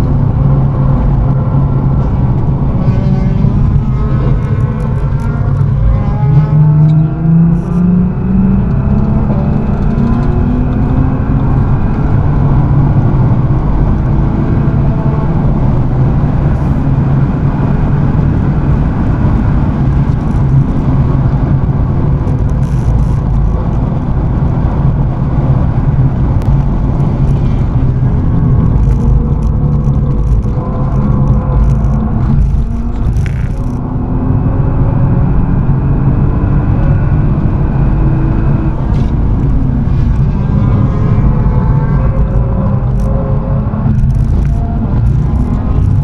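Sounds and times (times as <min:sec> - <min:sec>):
car engine revving: 0:00.0 - 0:46.0
wind noise: 0:00.0 - 0:46.0.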